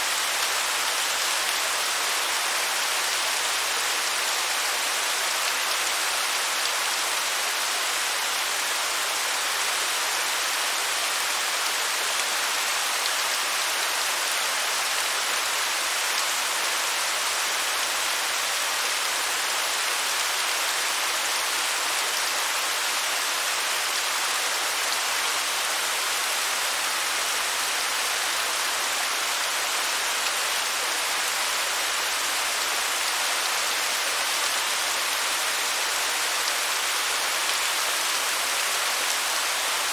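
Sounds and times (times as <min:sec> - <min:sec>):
waterfall hiss: 0:00.0 - 0:39.9.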